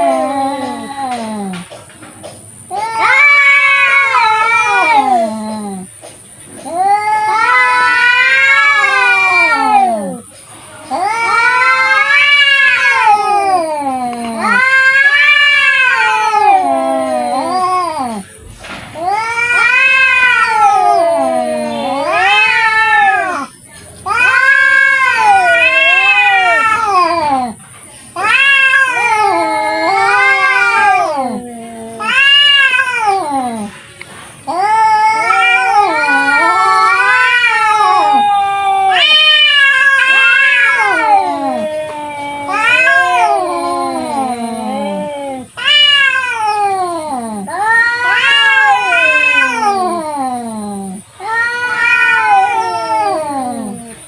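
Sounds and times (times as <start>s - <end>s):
cats yowling: 0.0s - 54.0s.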